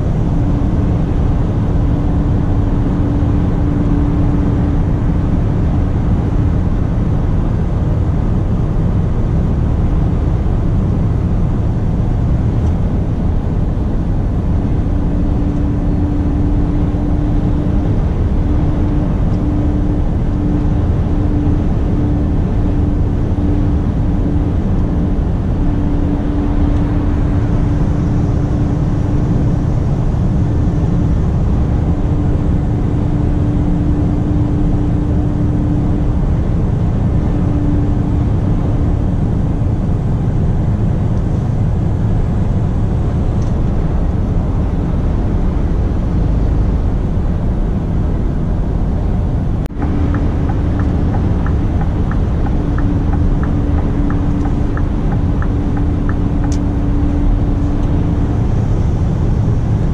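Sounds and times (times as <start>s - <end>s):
steady hum: 0.0s - 59.9s
truck engine and road rumble: 0.0s - 59.9s.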